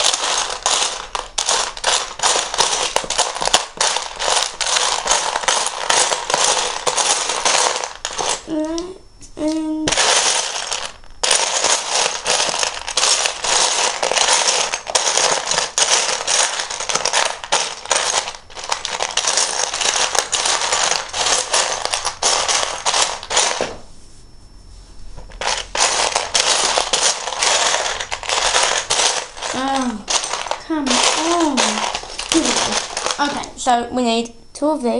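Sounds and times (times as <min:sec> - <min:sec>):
plastic bricks clattering: 0:00.0 - 0:08.9, 0:09.5 - 0:23.8, 0:25.3 - 0:33.5.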